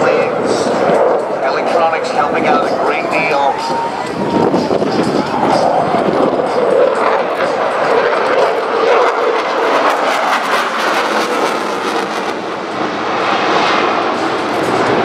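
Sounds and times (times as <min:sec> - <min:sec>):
fighter jet noise: 0:00.0 - 0:15.0.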